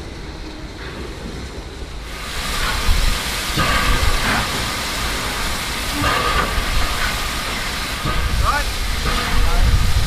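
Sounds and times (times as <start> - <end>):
steam locomotive hissing steam: 0.0 - 10.0.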